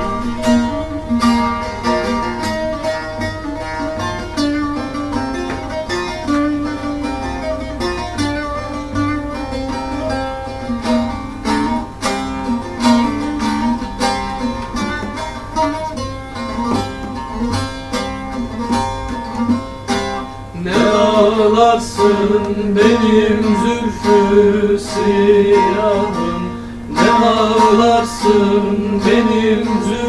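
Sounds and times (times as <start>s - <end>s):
plucked string melody: 0.0s - 30.0s.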